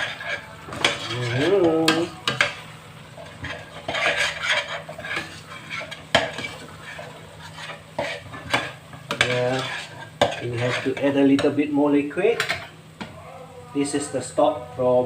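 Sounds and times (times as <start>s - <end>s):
utensil scraping a pot: 0.0s - 11.6s, 12.3s - 12.8s
spices sizzling in a pot: 0.0s - 13.2s.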